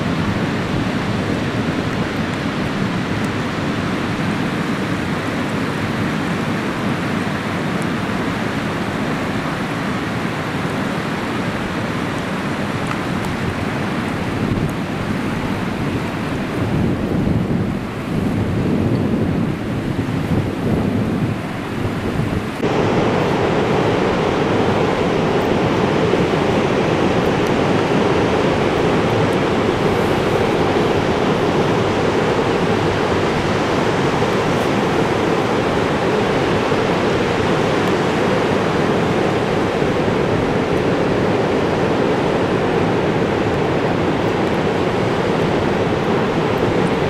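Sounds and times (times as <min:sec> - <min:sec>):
ocean surf breaking on beach: 0:00.0 - 0:47.0.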